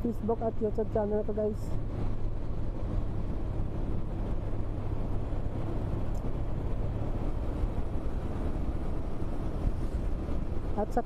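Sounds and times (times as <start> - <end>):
wind noise: 0.0 - 11.0.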